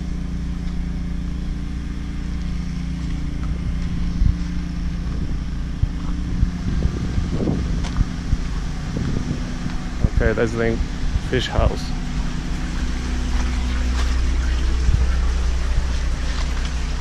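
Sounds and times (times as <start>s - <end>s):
generator engine hum: 0.0s - 17.0s.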